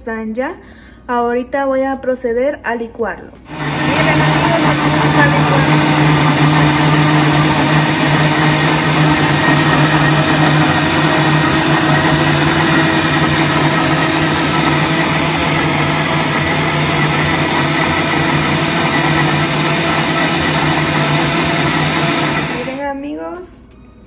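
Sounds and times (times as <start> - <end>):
blender running: 3.5 - 22.9.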